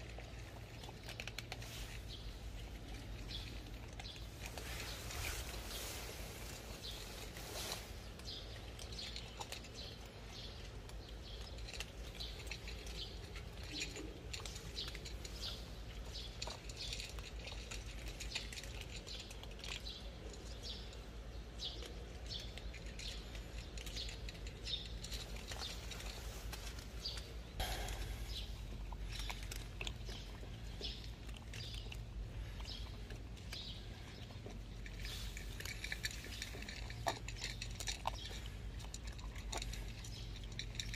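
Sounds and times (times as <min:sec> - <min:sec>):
cats crunching dry kibble: 0:00.0 - 0:40.9
low outdoor rumble: 0:00.0 - 0:40.9.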